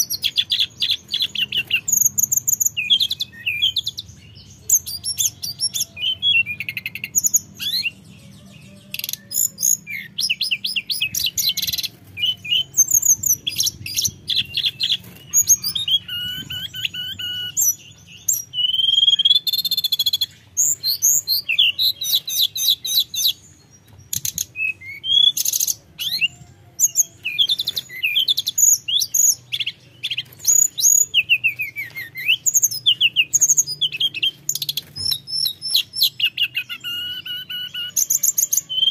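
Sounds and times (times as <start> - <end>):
flycatcher singing: 0.0 - 38.9.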